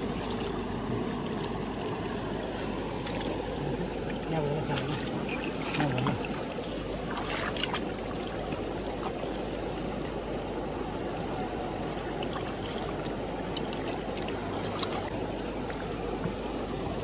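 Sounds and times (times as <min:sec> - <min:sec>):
river water flowing over stones: 0:00.0 - 0:17.0.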